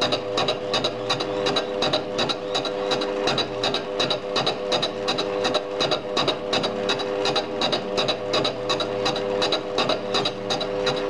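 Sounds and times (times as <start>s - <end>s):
lathe motor hum: 0.0s - 11.0s.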